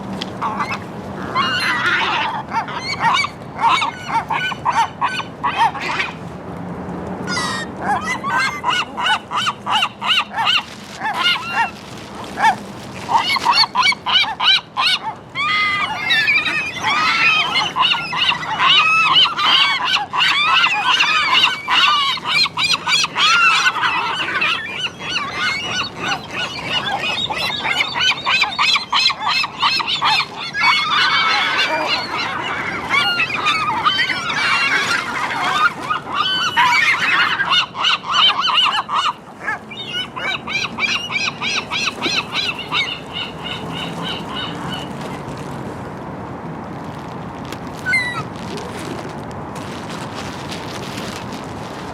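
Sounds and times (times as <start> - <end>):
flock of gulls calling: 0.4 - 6.2, 7.2 - 45.2, 47.8 - 48.3.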